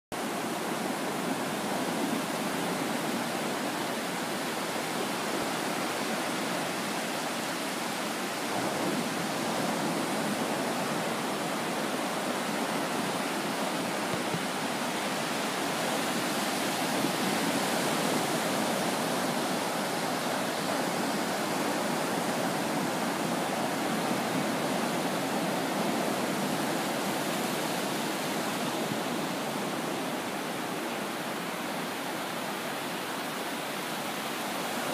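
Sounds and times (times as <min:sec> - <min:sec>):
small waves breaking on beach: 0:00.2 - 0:34.9.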